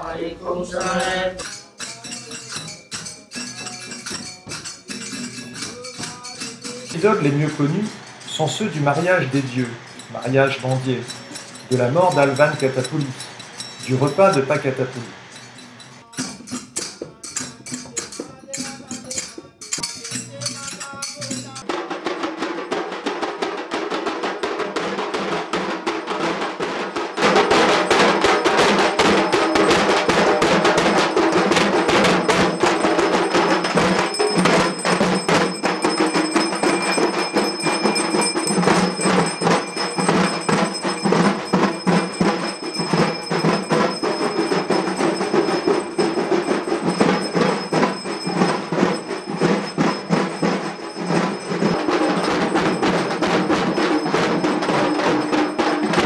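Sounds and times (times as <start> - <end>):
fast percussion: 0.0 - 56.0
hand cymbals clashing: 0.8 - 21.7, 24.7 - 56.0.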